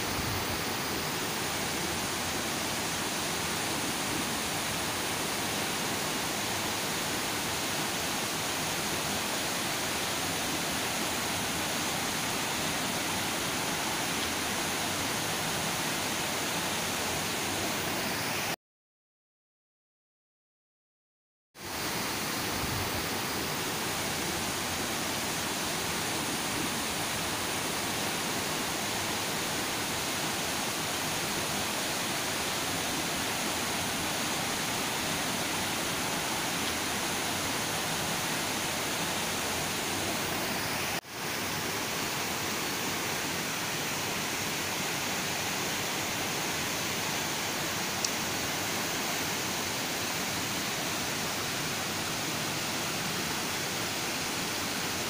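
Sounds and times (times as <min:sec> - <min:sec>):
river rushing over rocks: 0:00.0 - 0:18.6, 0:21.6 - 0:55.0.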